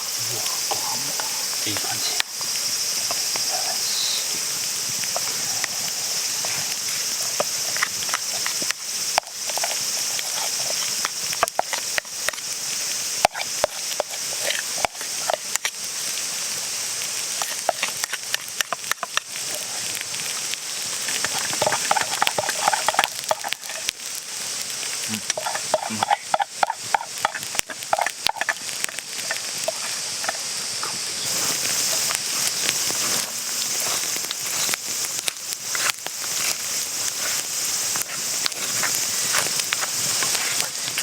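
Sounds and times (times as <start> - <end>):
campfire hissing: 0.0 - 41.0.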